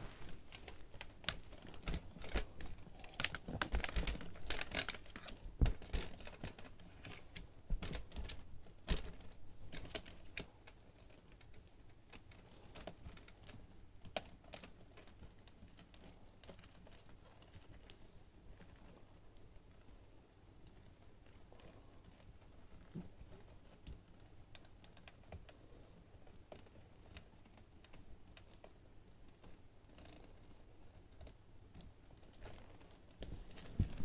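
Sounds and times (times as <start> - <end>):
rustling: 0.0 - 34.0.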